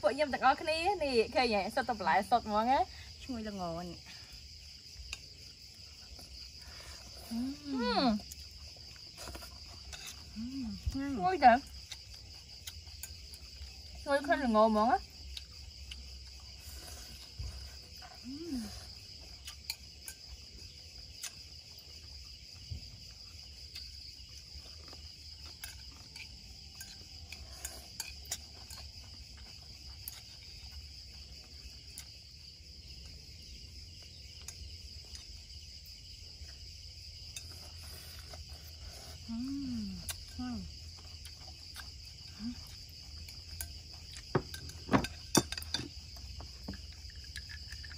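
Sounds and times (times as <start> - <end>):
night insects trilling: 0.0 - 47.9.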